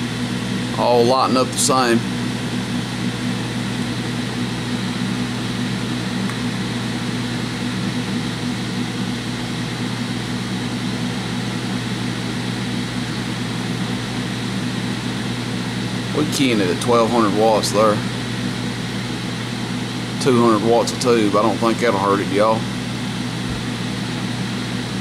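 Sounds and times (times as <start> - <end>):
cooling fans running: 0.0 - 25.0
low steady hum: 0.0 - 25.0.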